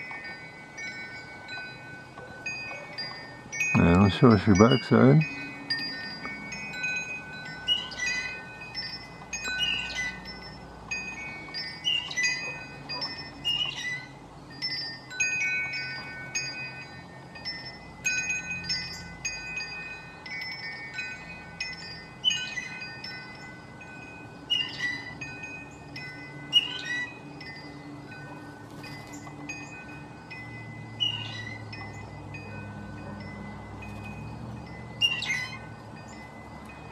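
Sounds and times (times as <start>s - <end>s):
wind chimes ringing: 0.0s - 36.9s.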